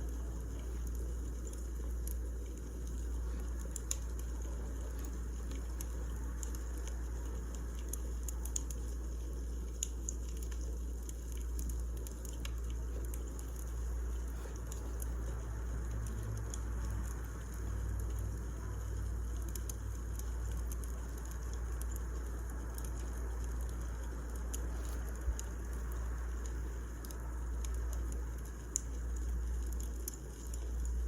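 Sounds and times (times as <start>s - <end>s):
firewood crackling and popping: 0.0s - 31.0s.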